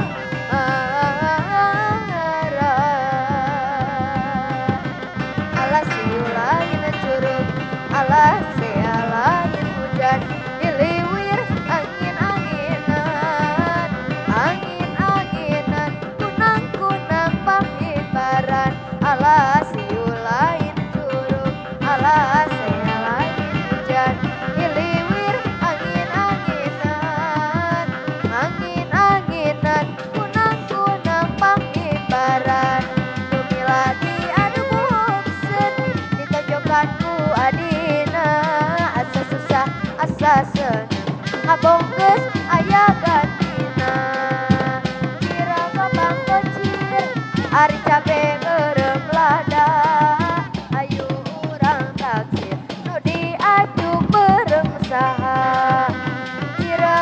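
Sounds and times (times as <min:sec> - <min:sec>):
hand drums beating: 0:00.0 - 0:57.0.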